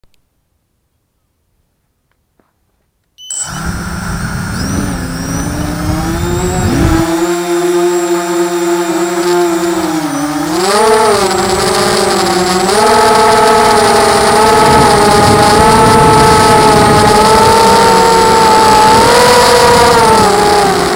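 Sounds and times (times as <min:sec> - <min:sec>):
quadcopter motors whining: 0:03.2 - 0:20.9.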